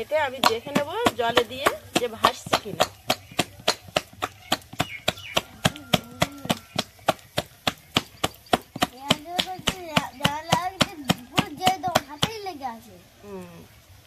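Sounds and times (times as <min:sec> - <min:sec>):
wet slaps of paste beaten by hand: 0:00.3 - 0:12.4.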